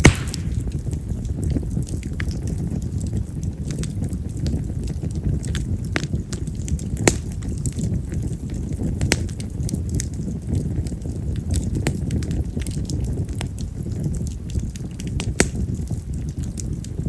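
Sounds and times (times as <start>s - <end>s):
firewood crackling and popping: 0.0s - 17.0s
flame rumble: 0.0s - 17.0s.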